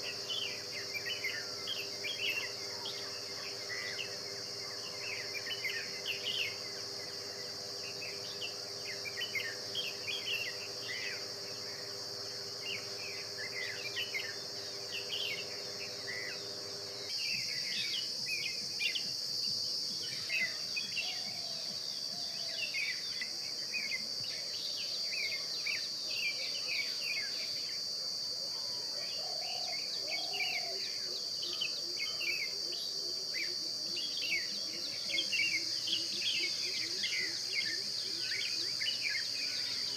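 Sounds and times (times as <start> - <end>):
shrill insect drone: 0.0 - 39.9.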